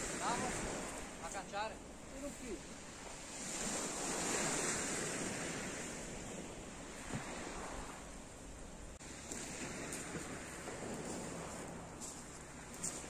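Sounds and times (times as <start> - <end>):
waves washing up pebble shore: 0.0 - 1.4, 2.1 - 8.1, 9.0 - 13.0.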